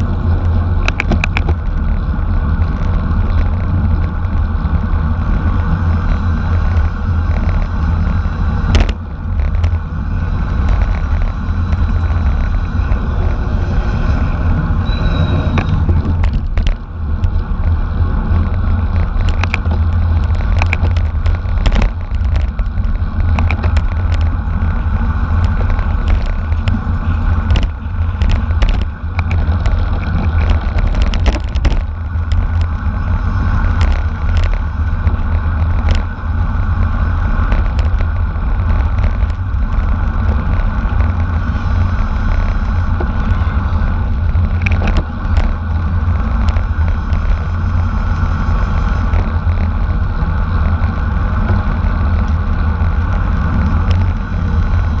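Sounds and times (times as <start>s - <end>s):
bicycle clicks and rattles: 0.0s - 55.0s
road noise: 0.0s - 55.0s
wind buffeting microphone: 0.0s - 55.0s.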